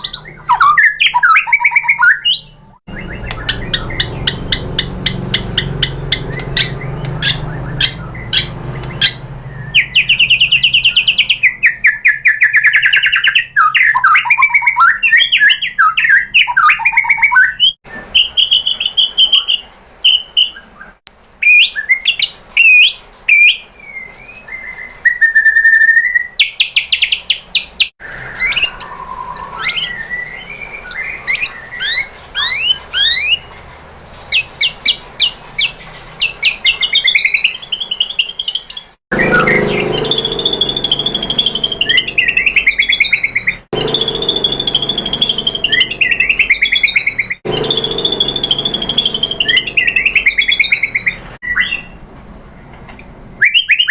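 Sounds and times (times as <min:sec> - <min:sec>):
songbird singing varied song: 0:00.0 - 0:53.9.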